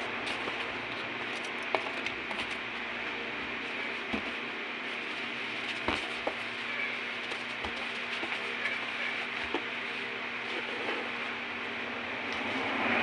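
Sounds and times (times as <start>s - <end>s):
plastic wrapping rustling: 0.0s - 11.8s.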